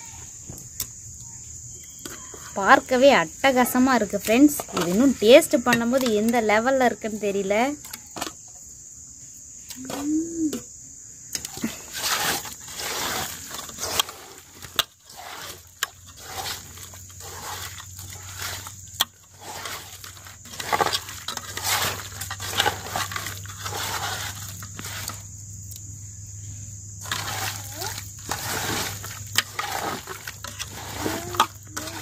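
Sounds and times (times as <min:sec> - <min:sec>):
high insect chirring: 0:00.0 - 0:32.0.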